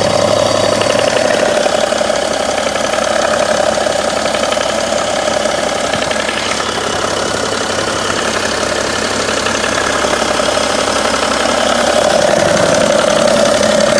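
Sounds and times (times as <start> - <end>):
diesel engine idling: 0.0 - 13.9
engine clicking: 0.0 - 13.9.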